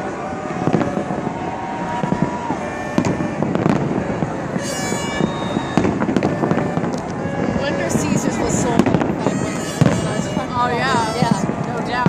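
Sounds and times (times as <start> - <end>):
firework whistle: 0.0 - 12.0
fireworks bangs and crackles: 0.0 - 12.0.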